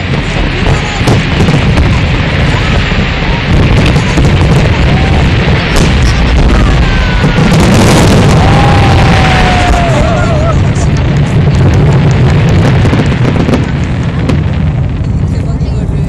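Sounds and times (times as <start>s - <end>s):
fireworks booming and cracking: 0.0s - 16.0s.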